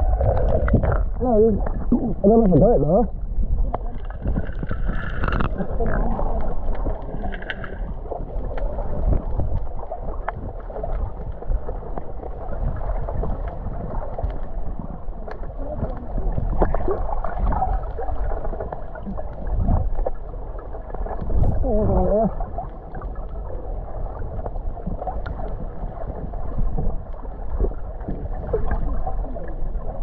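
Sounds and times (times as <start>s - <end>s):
underwater rumble of moving water: 0.0s - 30.0s
water gurgles: 0.0s - 30.0s.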